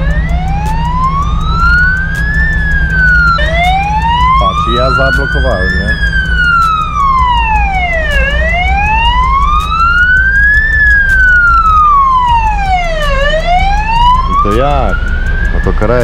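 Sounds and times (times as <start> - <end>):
ambulance siren wailing: 0.0 - 16.0
truck engine rumble: 0.0 - 16.0.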